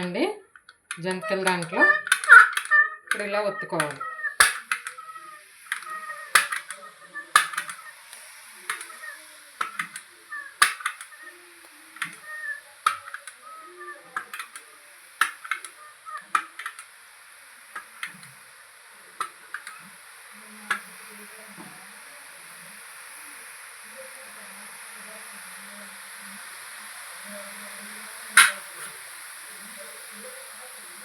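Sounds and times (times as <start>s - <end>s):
hot oil sizzling: 0.0s - 31.0s.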